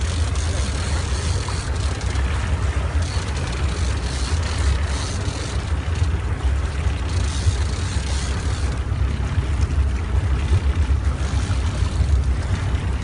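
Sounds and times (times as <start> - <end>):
sea water churning: 0.0 - 13.0
wind buffeting microphone: 0.0 - 13.0.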